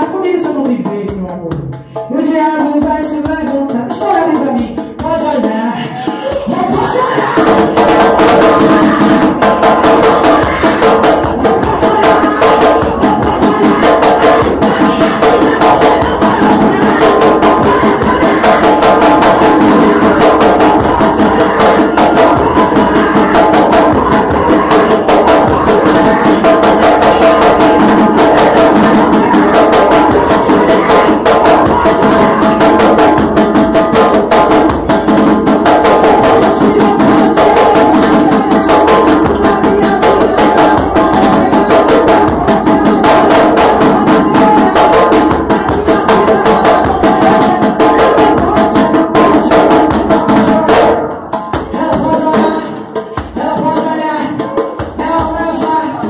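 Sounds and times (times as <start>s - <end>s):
loud music with drums: 0.0s - 56.0s.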